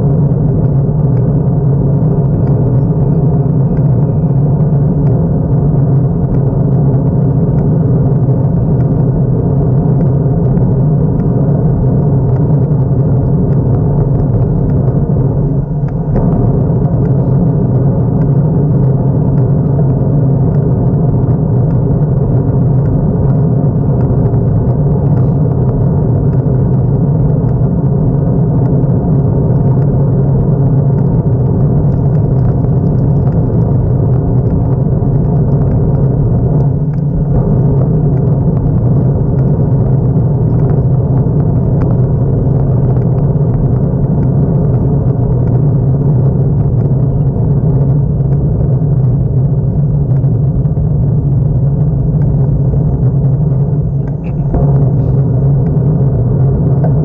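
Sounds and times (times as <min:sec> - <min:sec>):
road and wind noise: 0:00.0 - 0:57.0
vehicle engine drone: 0:00.0 - 0:57.0.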